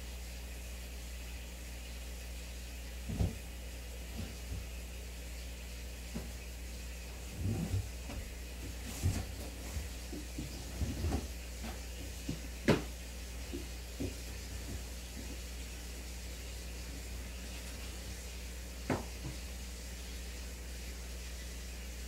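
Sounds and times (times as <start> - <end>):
aquarium equipment humming: 0.0 - 22.0.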